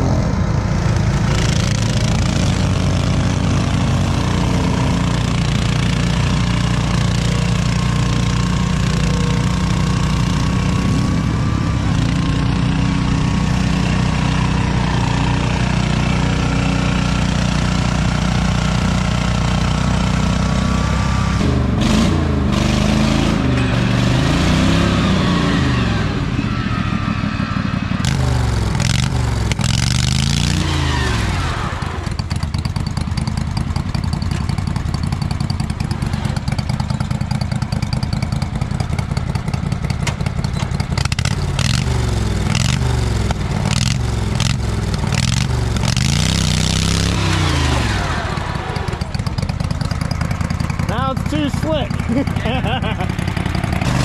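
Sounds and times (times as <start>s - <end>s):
lawn tractor engine revving: 0.0s - 54.0s.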